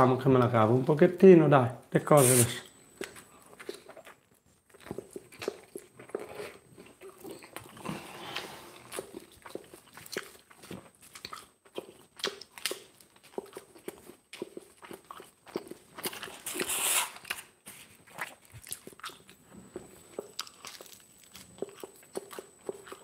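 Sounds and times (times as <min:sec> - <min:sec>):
chewing crunchy crust: 0:02.9 - 0:23.0.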